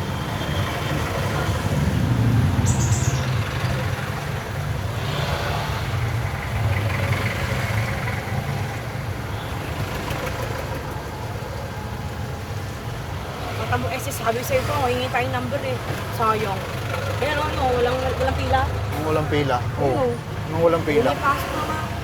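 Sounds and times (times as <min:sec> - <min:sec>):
tyre and wind road noise: 0:00.0 - 0:22.0.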